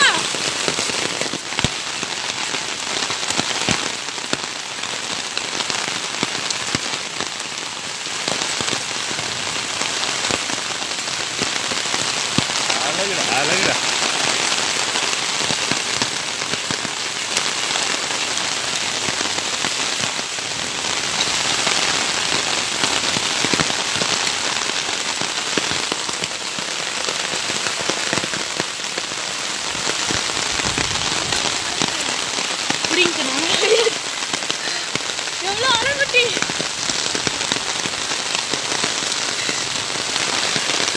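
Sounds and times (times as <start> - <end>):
hail and rain on pavement: 0.0 - 40.9.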